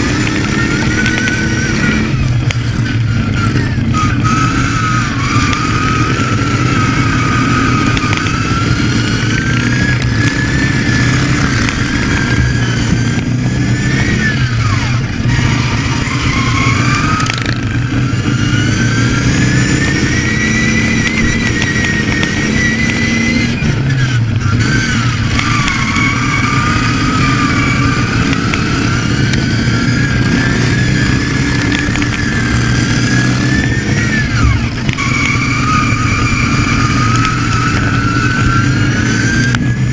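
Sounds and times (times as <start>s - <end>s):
lawn mower engine running hard: 0.0s - 39.9s.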